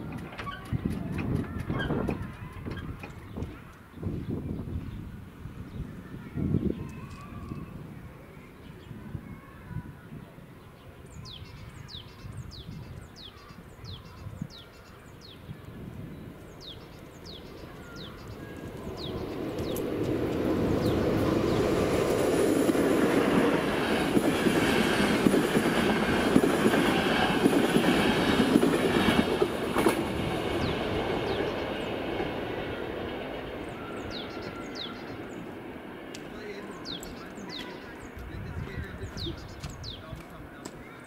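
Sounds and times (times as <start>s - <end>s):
train passing: 0.0s - 41.0s.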